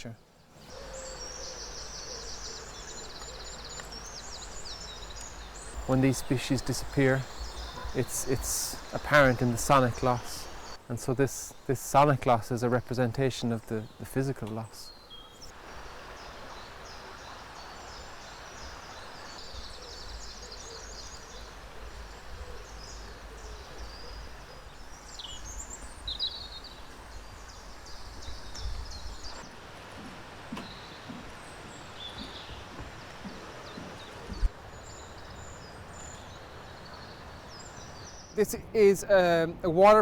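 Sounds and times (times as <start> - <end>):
wild birds chirping: 0.0 - 40.0.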